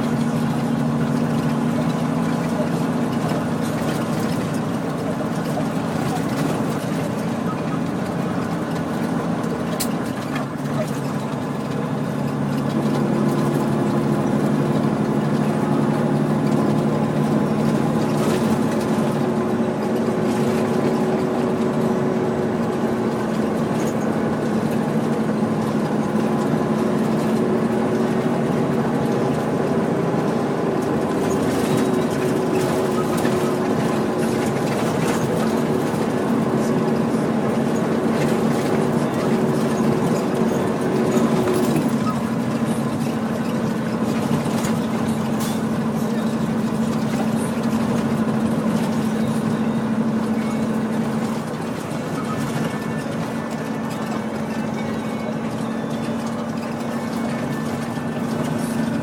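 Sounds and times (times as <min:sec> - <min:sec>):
road noise: 0:00.0 - 0:59.0
truck diesel engine running: 0:00.0 - 0:59.0.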